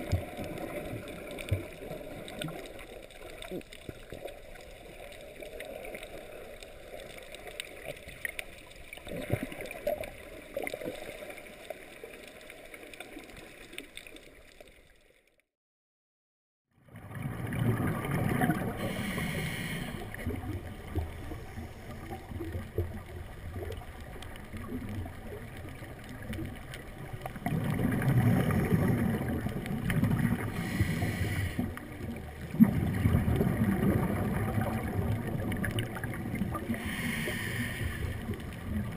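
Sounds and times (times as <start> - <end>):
gurgling bubbles: 0.0 - 13.7, 16.8 - 38.9
underwater rushing water: 0.0 - 15.2, 16.8 - 38.9.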